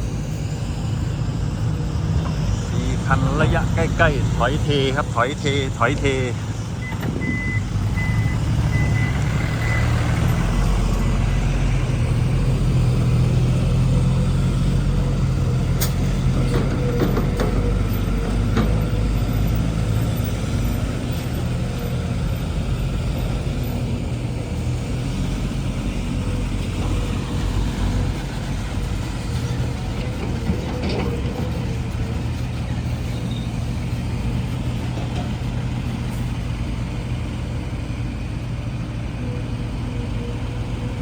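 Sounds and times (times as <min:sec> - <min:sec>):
truck engine running: 0:00.0 - 0:41.0.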